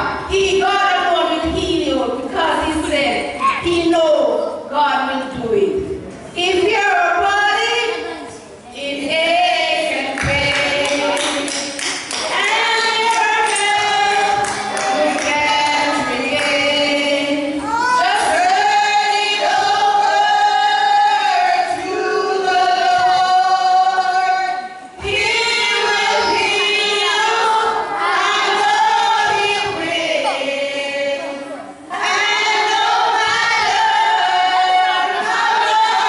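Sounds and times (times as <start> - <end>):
women singing in harmony: 0.0 - 3.0, 8.7 - 36.0.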